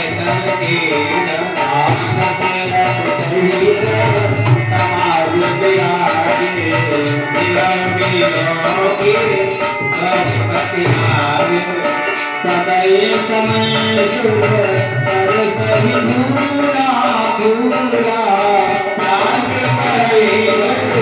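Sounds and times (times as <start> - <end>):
jingling percussion: 0.0 - 21.0.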